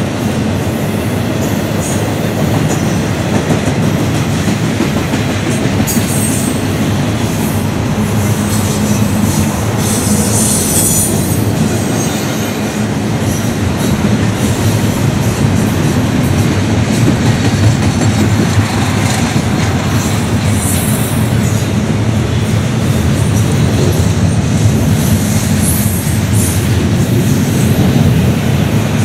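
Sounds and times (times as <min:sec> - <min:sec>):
freight train rumbling over bridge: 0:00.0 - 0:29.0.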